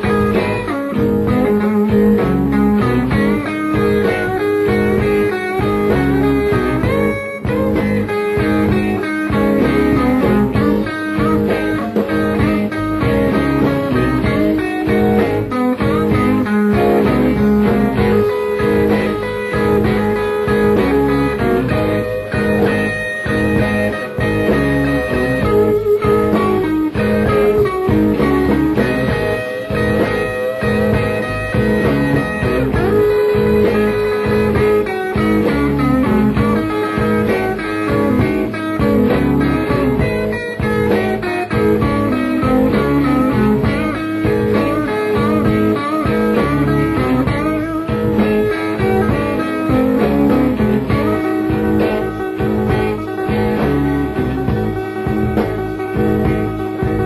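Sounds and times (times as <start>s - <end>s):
electric blues band playing: 0.0s - 57.0s
electric guitar: 0.0s - 57.0s.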